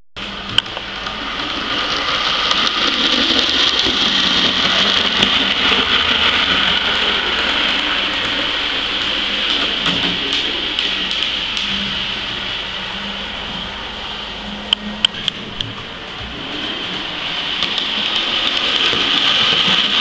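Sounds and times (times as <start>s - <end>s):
model train whirring: 0.2s - 20.0s.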